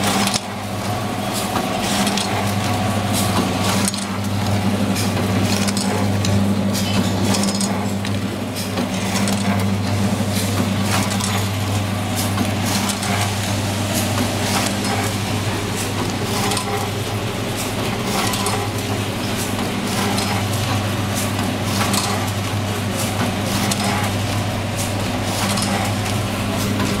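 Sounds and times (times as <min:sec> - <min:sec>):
mechanism clicking and clattering: 0:00.0 - 0:00.6, 0:01.3 - 0:11.6, 0:12.2 - 0:13.4, 0:14.0 - 0:27.0
machine electric hum: 0:00.0 - 0:27.0.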